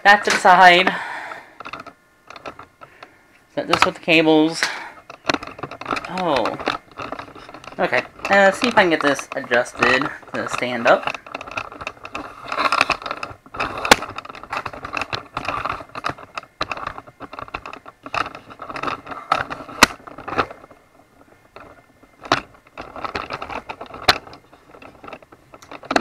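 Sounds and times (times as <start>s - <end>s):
computer case rattling and scraping: 0.0s - 26.0s
sharp clicks and knocks: 0.0s - 26.0s.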